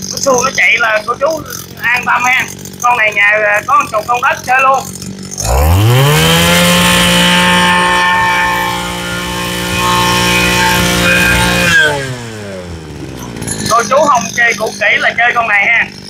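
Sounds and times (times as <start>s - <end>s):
brush cutter engine revving: 0.0s - 16.0s.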